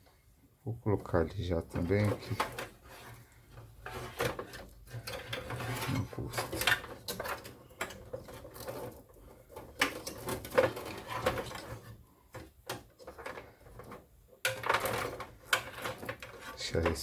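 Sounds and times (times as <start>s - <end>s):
cable rustling: 0.8s - 17.0s.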